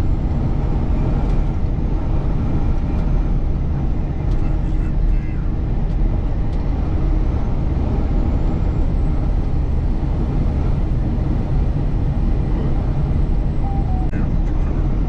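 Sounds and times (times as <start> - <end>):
road rumble: 0.0 - 15.0
truck engine drone: 0.0 - 15.0.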